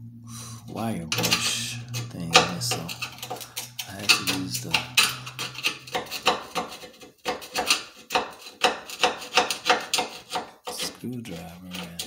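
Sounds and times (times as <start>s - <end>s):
screwdriver scraping steel weld: 1.1s - 12.0s.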